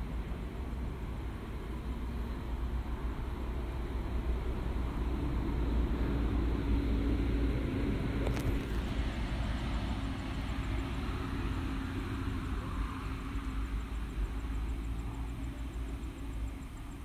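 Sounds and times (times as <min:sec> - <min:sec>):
faint steady hum: 0:00.0 - 0:17.0
low rumble and hiss: 0:00.0 - 0:17.0.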